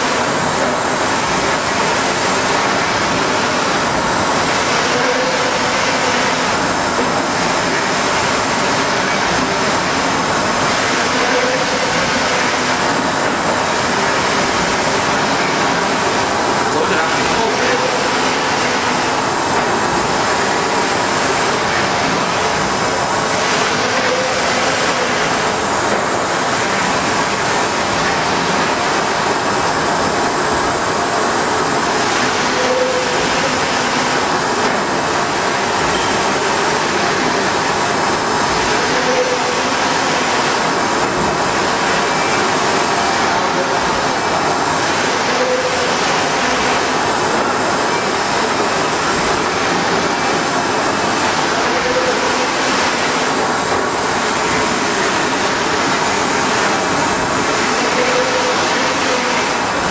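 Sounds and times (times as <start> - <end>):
printer machine noise: 0.0 - 59.9.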